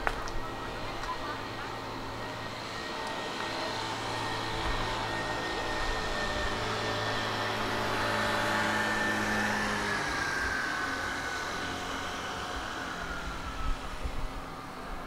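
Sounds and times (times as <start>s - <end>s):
motor scooter passing with whine: 0.0s - 15.0s
street traffic hum: 0.0s - 15.0s.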